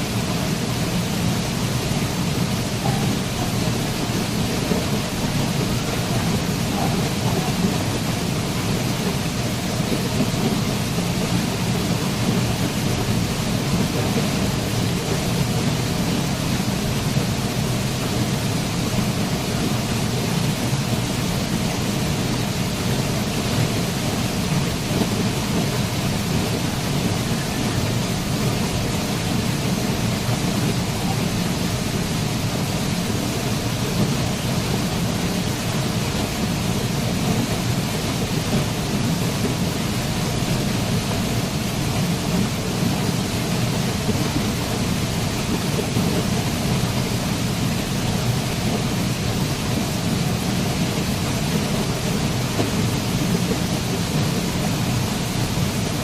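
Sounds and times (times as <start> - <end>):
waterfall pouring: 0.0 - 56.0.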